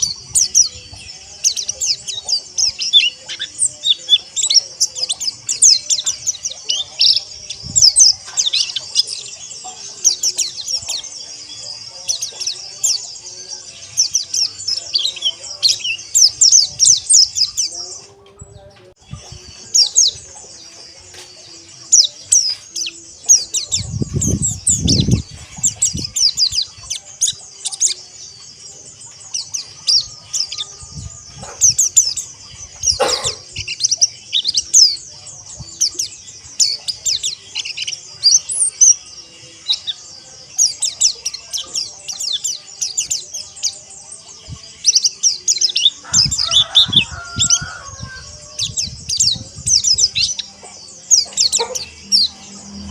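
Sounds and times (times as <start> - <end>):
birds chirping and trilling: 0.0 - 52.9.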